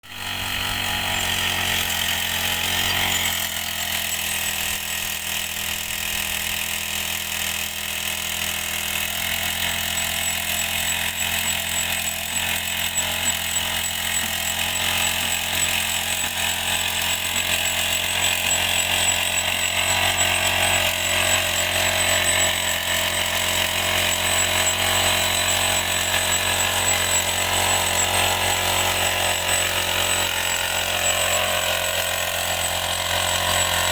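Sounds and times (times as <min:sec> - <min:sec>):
rail drilling machine droning: 0:00.0 - 0:33.9.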